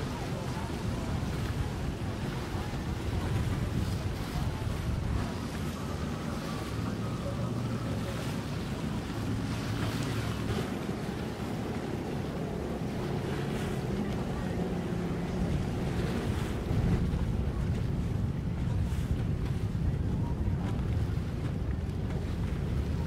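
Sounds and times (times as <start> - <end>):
low steady engine hum: 0.0 - 23.0
water moving: 0.0 - 23.0
wind buffeting microphone: 0.0 - 23.0.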